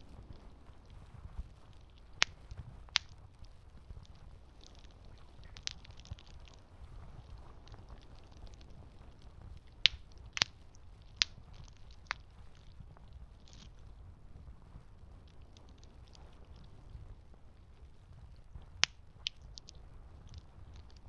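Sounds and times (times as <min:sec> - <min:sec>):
burning wood popping: 0:00.0 - 0:21.0
campfire crackling: 0:00.0 - 0:21.0.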